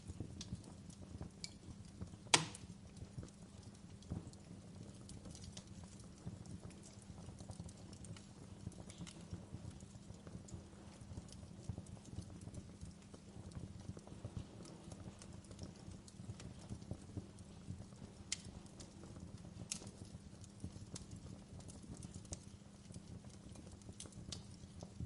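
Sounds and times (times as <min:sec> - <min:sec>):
fire crackling: 0:00.0 - 0:25.0
fire pops: 0:00.0 - 0:25.0
low rumble of flames: 0:00.0 - 0:25.0.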